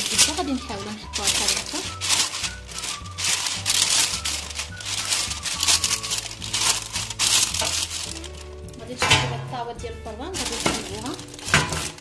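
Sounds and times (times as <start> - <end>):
baking paper rustling: 0.0 - 9.4, 10.2 - 12.0
quiet background music: 0.0 - 12.0.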